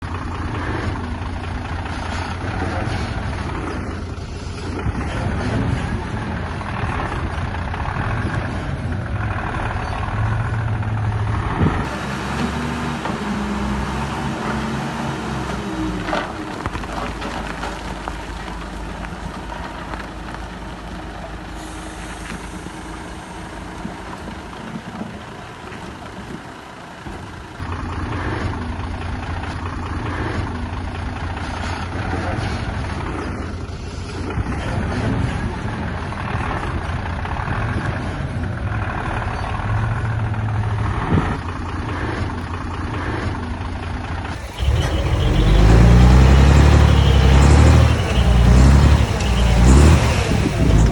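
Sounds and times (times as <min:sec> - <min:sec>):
heavy machinery diesel engines: 0:00.0 - 0:50.9.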